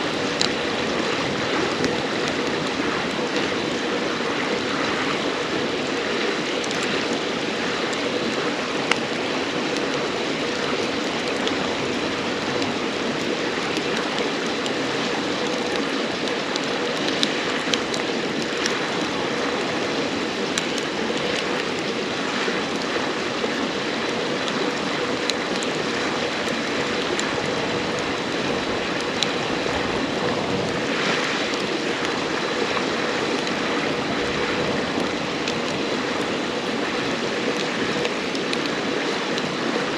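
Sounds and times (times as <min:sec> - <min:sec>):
firewood crackling and popping: 0:00.0 - 0:39.9
river flowing: 0:00.0 - 0:39.9.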